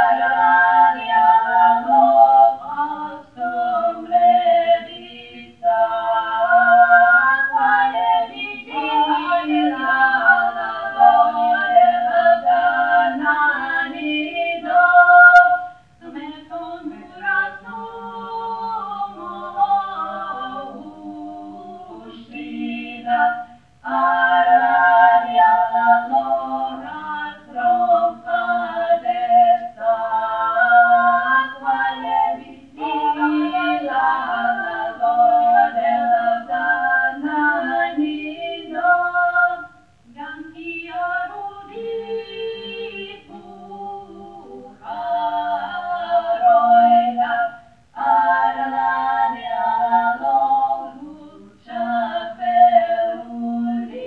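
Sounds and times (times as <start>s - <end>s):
voices singing in harmony: 0.0s - 54.0s.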